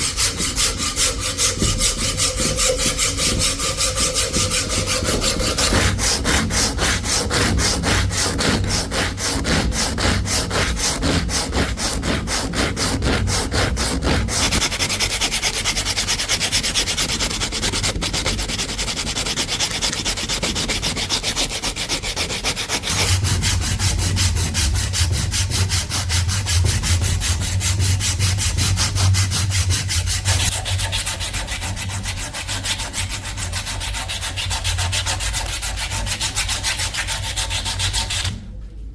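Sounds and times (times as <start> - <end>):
wood sanded by hand: 0.0 - 38.3.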